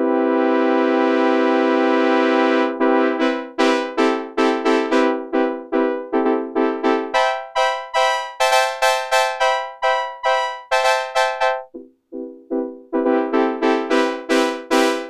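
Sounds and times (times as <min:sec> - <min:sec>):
synthesizer brass chords: 0:00.0 - 0:11.9, 0:12.6 - 0:15.0.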